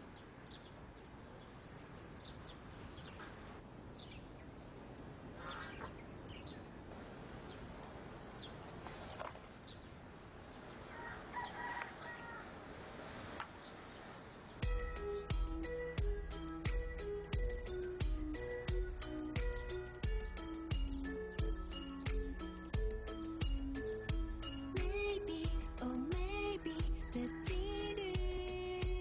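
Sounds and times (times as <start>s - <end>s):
birds chirping: 0.0s - 12.4s, 13.5s - 29.0s
steady background hiss: 0.0s - 29.0s.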